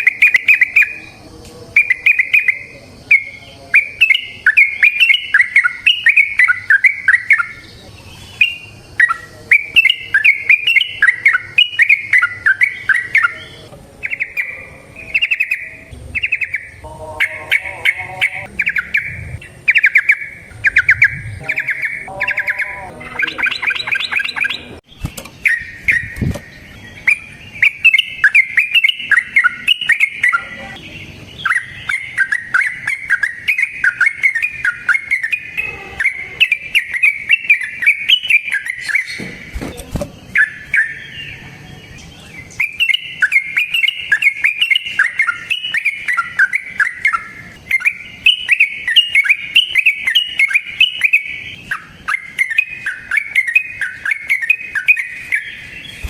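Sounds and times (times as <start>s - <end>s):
bird singing bubbly chatter: 0.0s - 56.0s.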